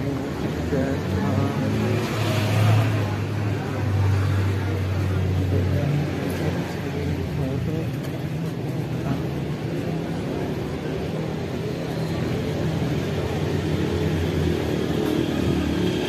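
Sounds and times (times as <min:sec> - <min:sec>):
vehicle engines humming: 0:00.0 - 0:16.0.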